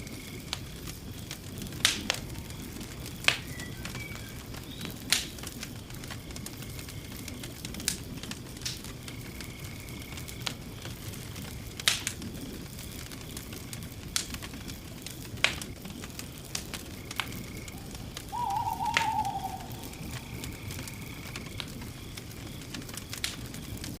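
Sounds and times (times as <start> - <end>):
campfire low rumble: 0.0 - 24.0.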